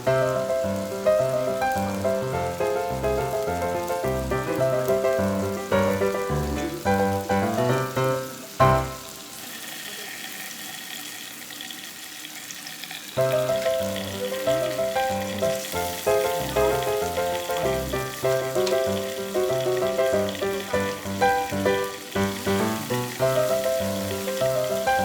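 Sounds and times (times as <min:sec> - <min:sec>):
background music: 0:00.0 - 0:09.1, 0:13.2 - 0:25.0
meat sizzling on a grill: 0:00.0 - 0:25.0.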